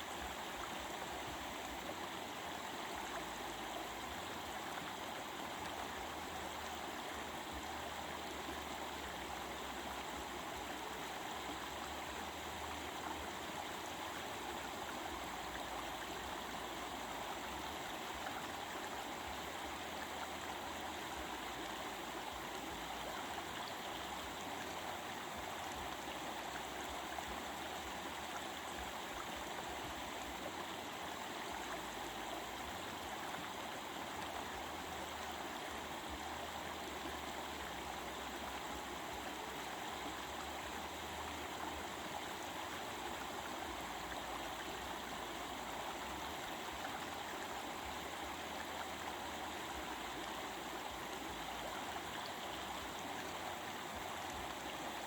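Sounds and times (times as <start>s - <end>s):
stream water babbling over rocks: 0.0s - 55.0s.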